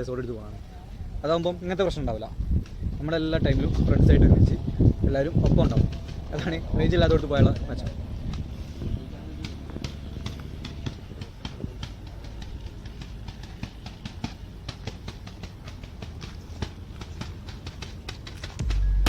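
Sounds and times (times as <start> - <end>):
low engine hum: 2.9 - 19.0.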